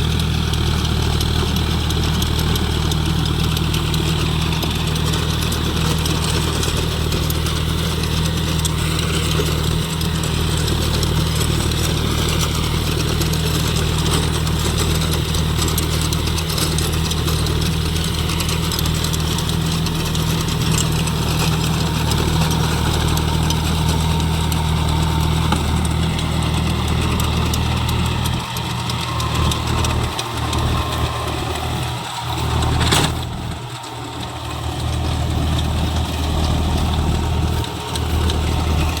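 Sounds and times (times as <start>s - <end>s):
tractor diesel engine droning: 0.0s - 39.0s.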